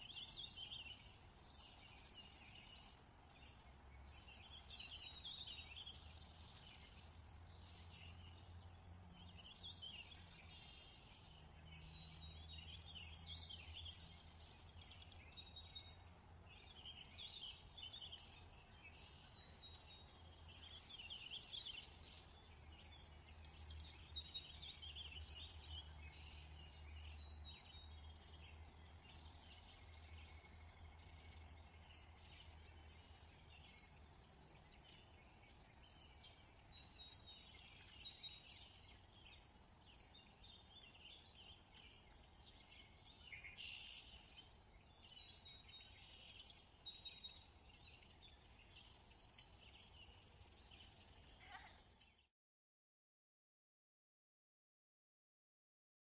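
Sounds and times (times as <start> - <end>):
birds chirping and trilling: 0.0 - 52.3.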